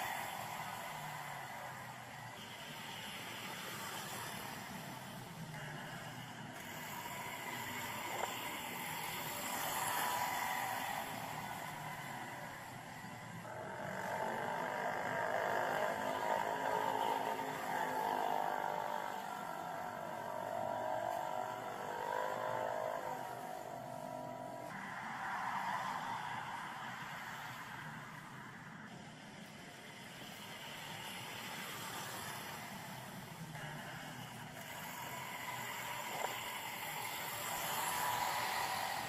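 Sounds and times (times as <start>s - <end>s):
motorcycle engine running nearby: 0.0s - 39.0s
street traffic: 0.0s - 39.0s.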